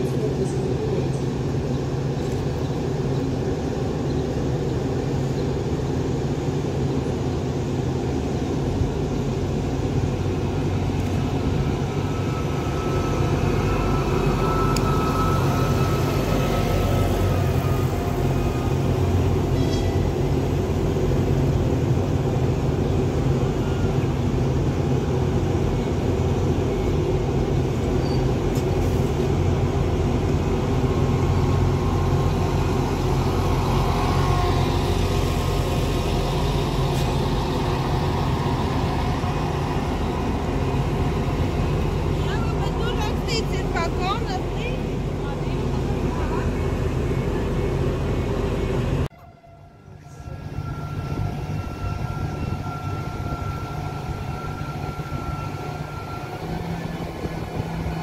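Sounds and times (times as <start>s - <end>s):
diesel train engine hum: 0.0s - 58.0s.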